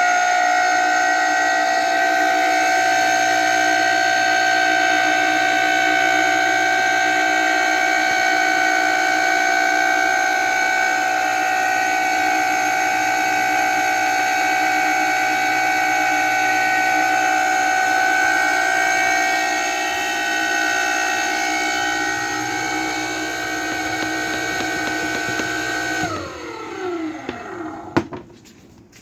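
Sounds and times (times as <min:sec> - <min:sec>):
electric pump motor screeching whine: 0:00.0 - 0:28.2.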